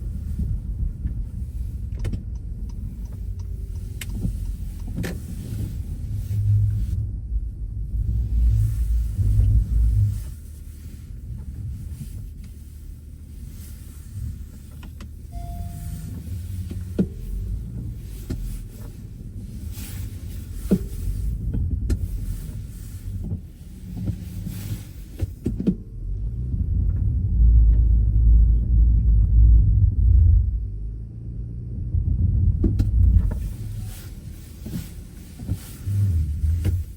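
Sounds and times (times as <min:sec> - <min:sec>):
car driving rumble: 0:00.0 - 0:36.9.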